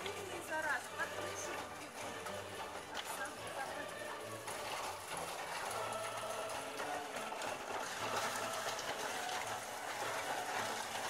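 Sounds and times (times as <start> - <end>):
hail pelting down: 0.0 - 11.0.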